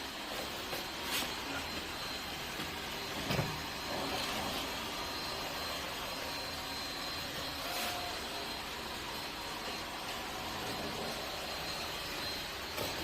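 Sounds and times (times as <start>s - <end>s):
faint high whine: 0.0s - 13.0s
robot vacuum cleaner whirring: 0.0s - 13.0s.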